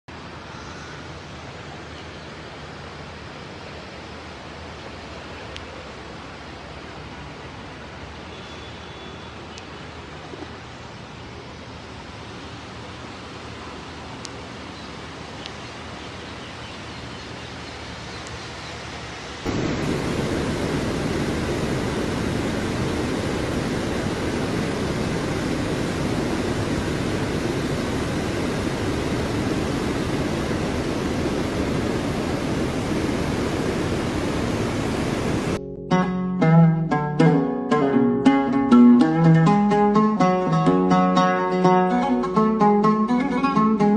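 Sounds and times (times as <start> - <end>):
rain: 0.1 - 35.6.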